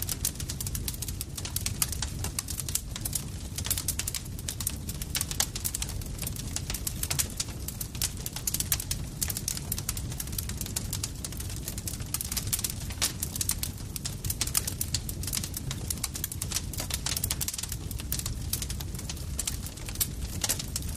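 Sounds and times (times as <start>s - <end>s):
low rumble of fire: 0.0s - 20.9s
pops and snaps of burning wood: 0.0s - 20.9s.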